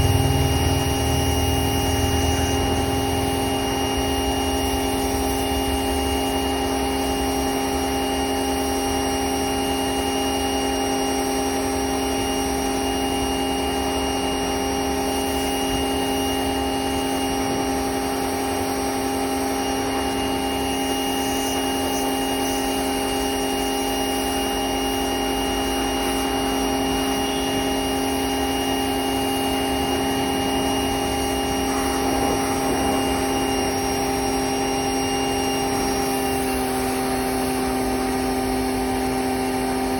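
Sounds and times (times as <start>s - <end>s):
motor humming steadily: 0.0s - 39.9s.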